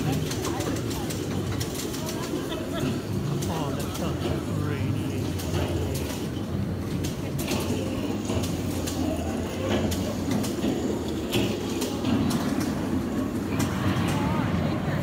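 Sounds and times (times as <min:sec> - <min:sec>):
track clicks: 0:00.0 - 0:14.3
train wheels rumbling: 0:00.0 - 0:15.0.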